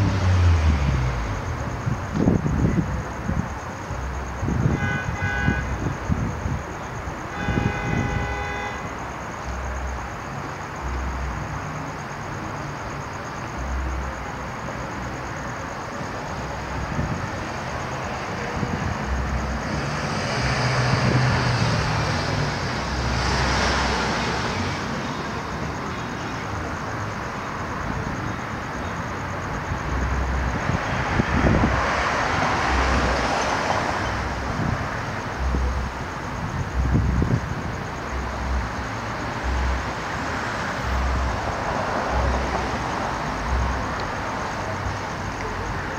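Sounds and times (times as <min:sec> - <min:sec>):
cars passing: 0:00.0 - 0:45.9.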